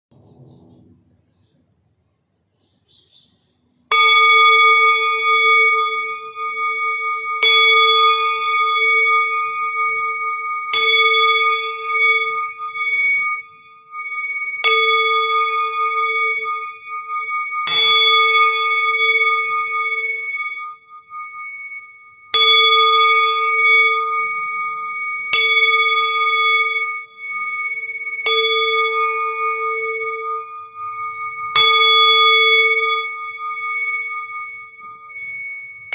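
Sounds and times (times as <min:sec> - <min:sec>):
singing bowl struck and ringing: 0:03.8 - 0:35.9.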